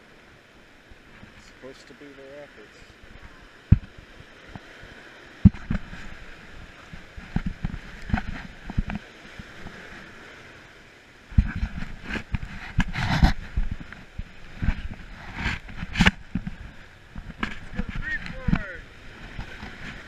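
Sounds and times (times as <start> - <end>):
paddles knocking water and raft: 0.0 - 20.0
rushing whitewater: 0.0 - 20.0.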